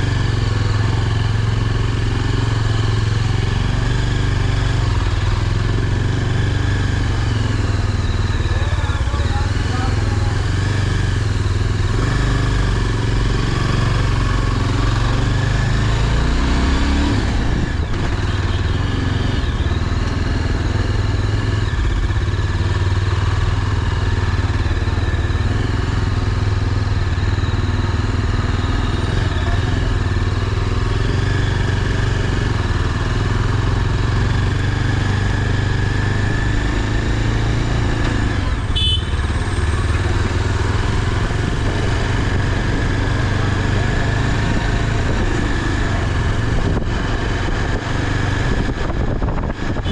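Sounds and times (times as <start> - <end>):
motorcycle engine droning: 0.0 - 49.9.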